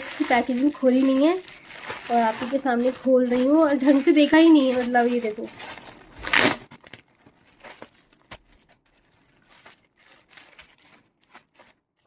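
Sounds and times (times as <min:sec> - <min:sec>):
plastic bag crinkling: 0:00.0 - 0:12.0
plastic packaging rustling: 0:00.0 - 0:12.0.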